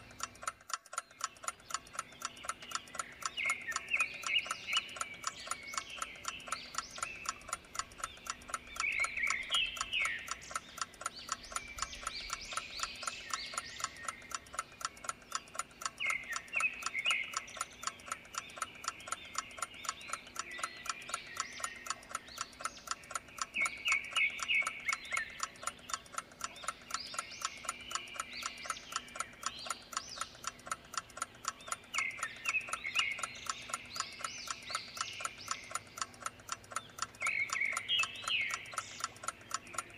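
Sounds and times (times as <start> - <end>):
clock ticking: 0.0 - 39.9
soft nature ambience: 0.0 - 39.9.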